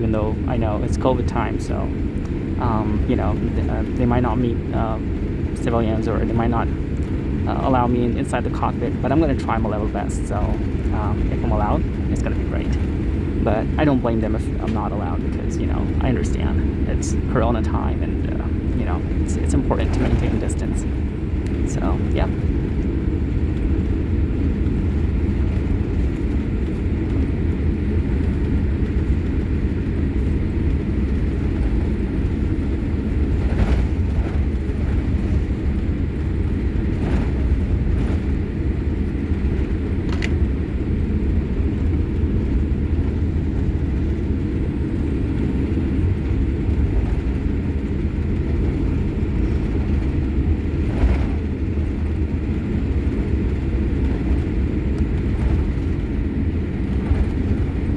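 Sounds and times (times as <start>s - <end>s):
aircraft cabin low rumble: 0.0s - 57.9s.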